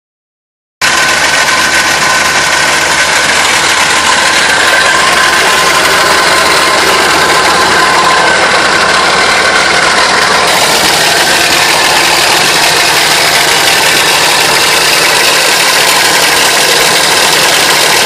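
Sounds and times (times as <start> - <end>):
truck engine idling with whine: 0.8 - 18.0.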